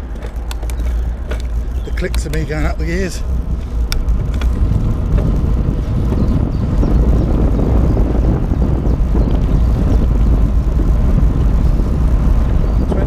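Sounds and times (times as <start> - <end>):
wind rushing on microphone: 0.0 - 13.0.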